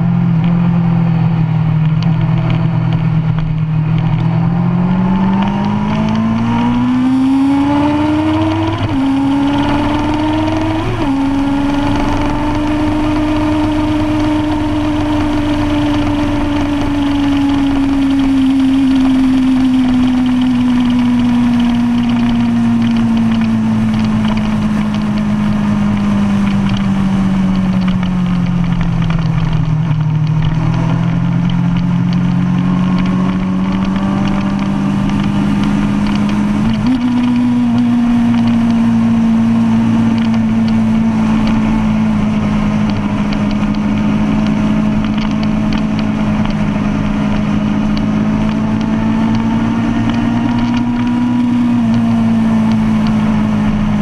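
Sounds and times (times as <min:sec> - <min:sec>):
motorcycle engine revving: 0:00.0 - 0:54.0
gear upshifts: 0:01.3 - 0:54.0.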